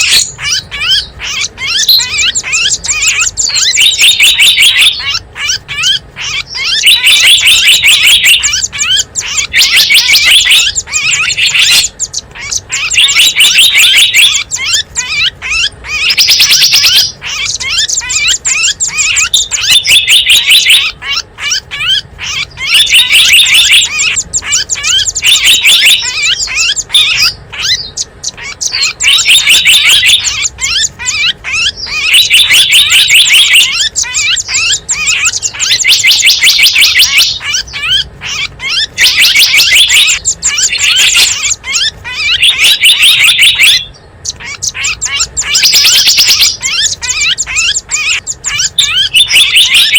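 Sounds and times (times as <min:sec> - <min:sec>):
songbird chirps: 0:00.0 - 0:49.9.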